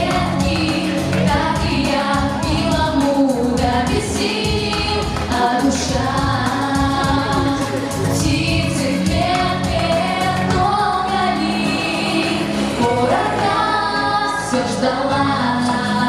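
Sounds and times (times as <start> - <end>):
instrumental accompaniment with beat: 0.0 - 16.0
women singing pop song: 0.0 - 16.0.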